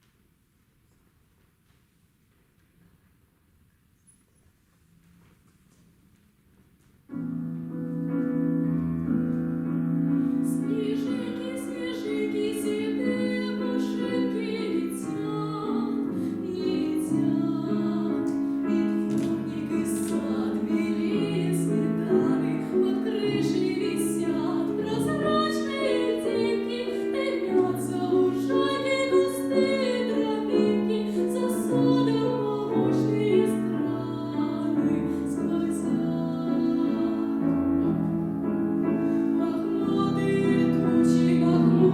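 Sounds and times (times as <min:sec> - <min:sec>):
classical piano music: 0:05.8 - 0:41.9.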